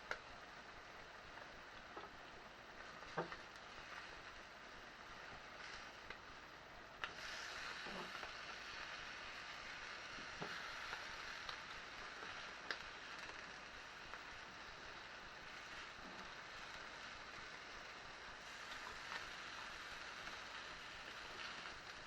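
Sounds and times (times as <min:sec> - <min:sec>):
cheese sizzling in a frying pan: 0:00.0 - 0:22.0.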